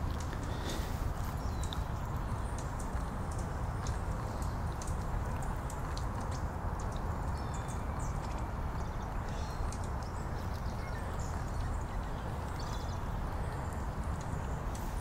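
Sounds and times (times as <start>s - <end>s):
fountain water splattering: 0.0s - 15.0s.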